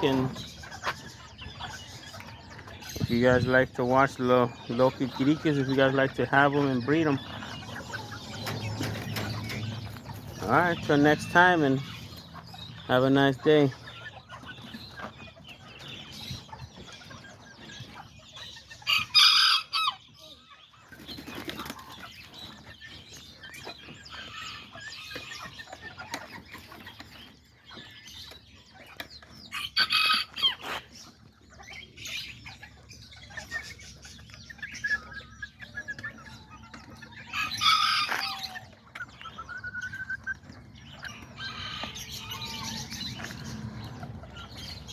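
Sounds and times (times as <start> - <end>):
roosters crowing: 0.0 - 28.2, 29.2 - 31.0, 33.0 - 44.9
chickens clucking: 0.0 - 44.9.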